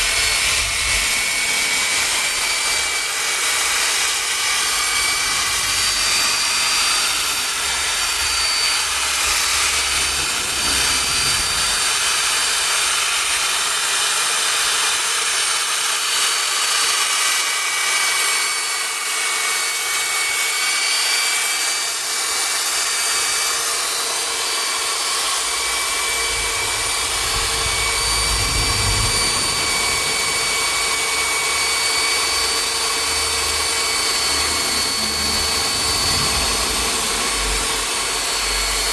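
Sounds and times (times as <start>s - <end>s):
power polisher whining: 0.0s - 14.8s, 19.0s - 38.9s.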